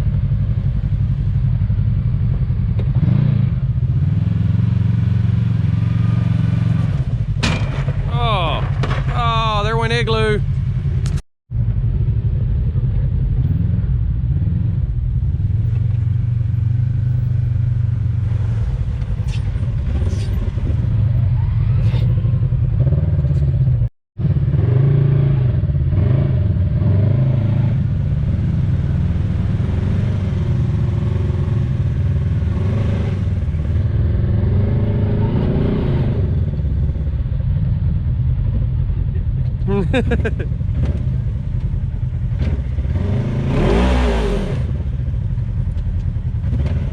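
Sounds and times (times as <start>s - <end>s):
utv engine revving: 2.7s - 11.2s, 11.9s - 37.1s, 39.1s - 46.9s.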